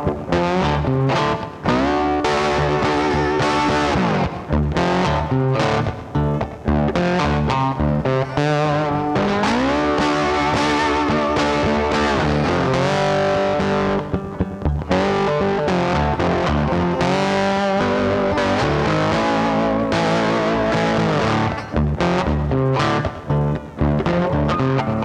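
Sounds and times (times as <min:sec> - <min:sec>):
rock music with distorted guitar: 0:00.0 - 0:25.0.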